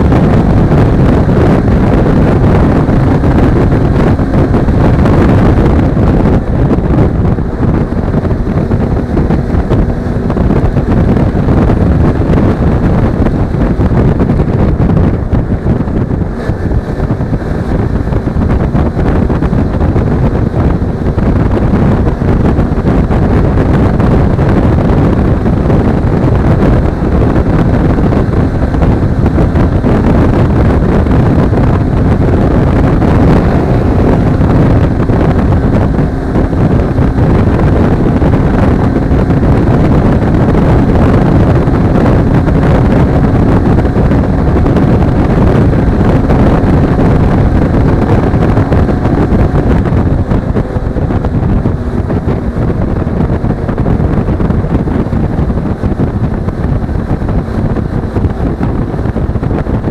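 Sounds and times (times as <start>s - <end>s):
motorcycle engine droning: 0.0s - 59.9s
wind on microphone: 0.0s - 59.9s.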